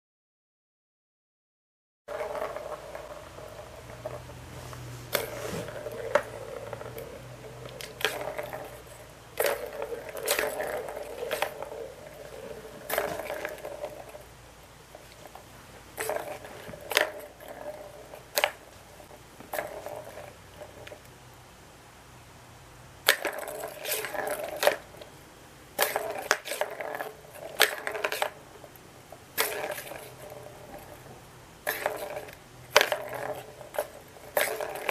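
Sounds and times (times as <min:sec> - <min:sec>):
ball rolling around plastic track: 0:02.1 - 0:21.2, 0:23.0 - 0:34.9.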